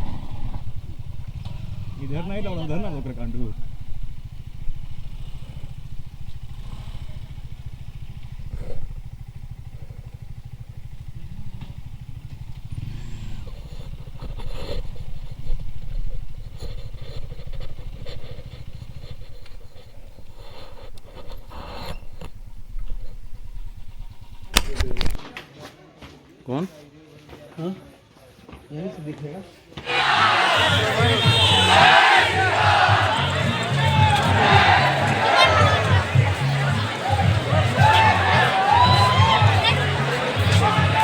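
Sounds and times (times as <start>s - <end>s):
motorcycle engine running: 0.0s - 24.8s, 29.8s - 41.0s.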